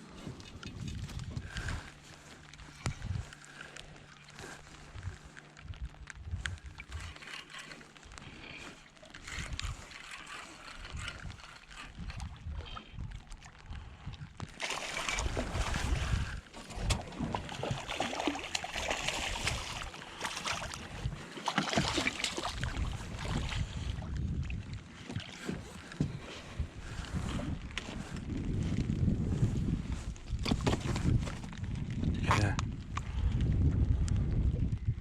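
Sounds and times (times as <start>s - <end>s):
wind gusts on microphone: 0.0s - 3.4s, 4.4s - 7.2s, 10.7s - 18.2s, 18.8s - 35.0s
water sloshing around boat: 0.0s - 32.5s.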